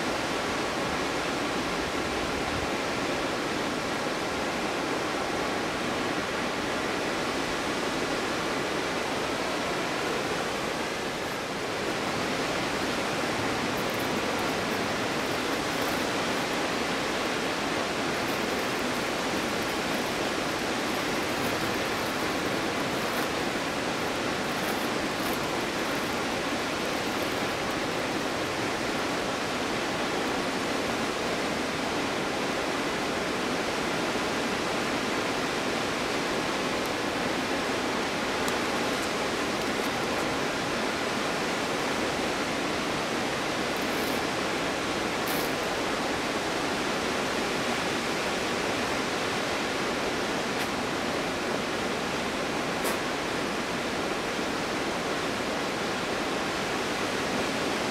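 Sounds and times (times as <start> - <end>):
waterfall rushing: 0.1 - 57.9.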